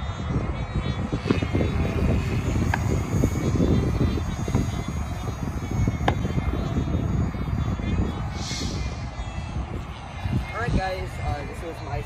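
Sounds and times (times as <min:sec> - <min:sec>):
faint wavering high whine: 0:00.0 - 0:12.0
wind buffeting microphone: 0:00.0 - 0:12.0.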